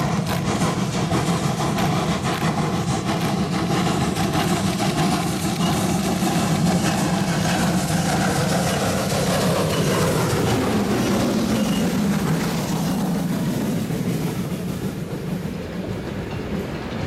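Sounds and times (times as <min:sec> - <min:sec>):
steam locomotive exhaust beating: 0:00.0 - 0:17.0.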